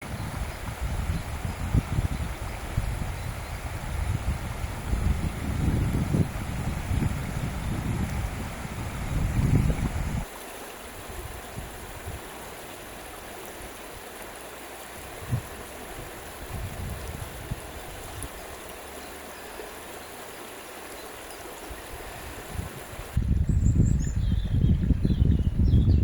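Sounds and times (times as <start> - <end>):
stream water rushing: 0.0 - 23.4.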